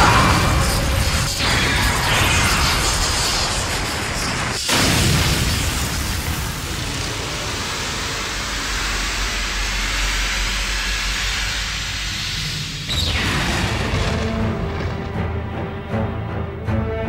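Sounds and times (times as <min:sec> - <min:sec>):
crackling electrical energy: 0:00.0 - 0:15.5.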